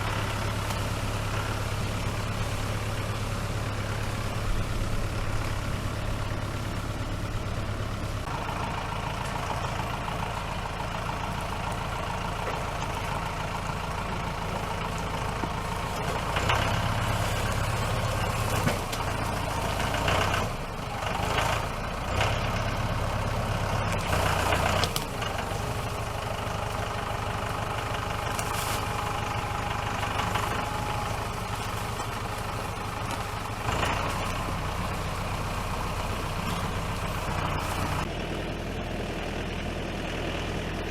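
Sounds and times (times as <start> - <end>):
engine idling with revving: 0.0 - 40.9.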